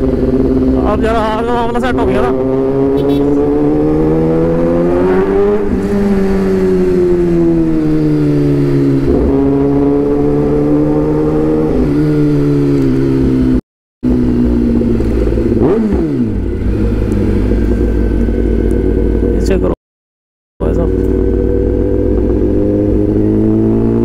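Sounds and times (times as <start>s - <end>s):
motorcycle engine running: 0.0s - 19.8s, 20.6s - 24.0s.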